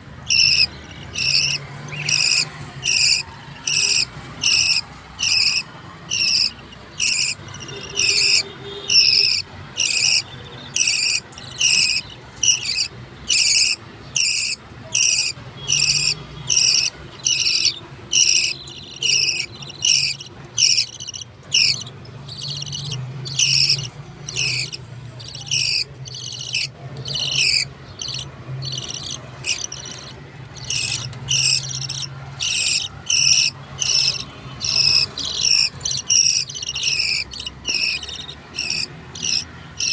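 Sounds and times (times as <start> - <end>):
chicks chirping begging calls: 0.2 - 39.9.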